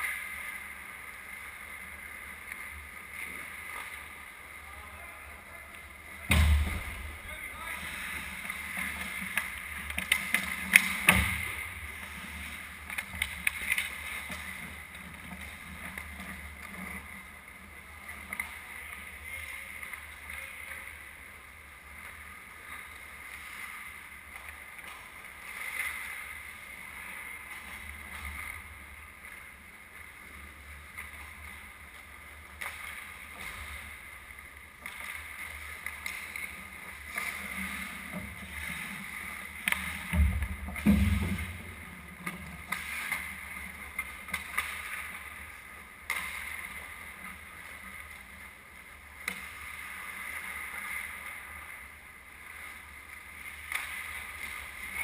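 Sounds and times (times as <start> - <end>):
skates scraping on ice: 0.0 - 6.4, 7.2 - 55.0.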